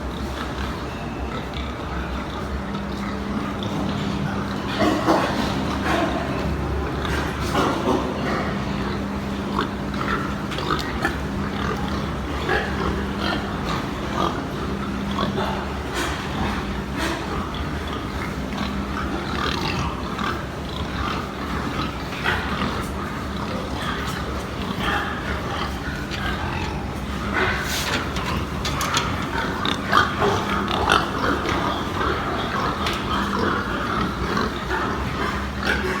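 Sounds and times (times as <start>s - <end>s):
pigs grunting and squealing: 0.0s - 36.0s.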